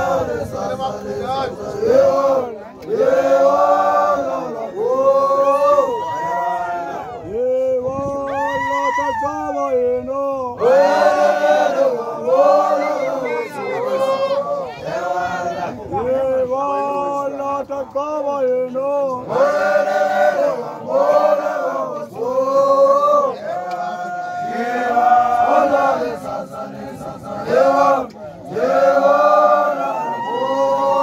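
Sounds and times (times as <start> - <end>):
young men chanting: 0.0 - 5.8, 10.0 - 30.8.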